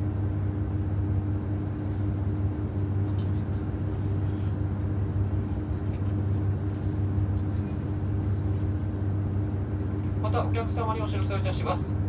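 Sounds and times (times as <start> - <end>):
diesel engines idling hum: 0.0 - 12.0.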